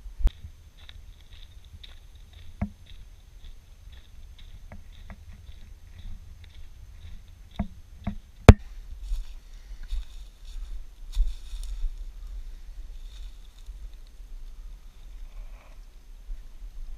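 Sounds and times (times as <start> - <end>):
footsteps on dirt trail: 0.0 - 16.9.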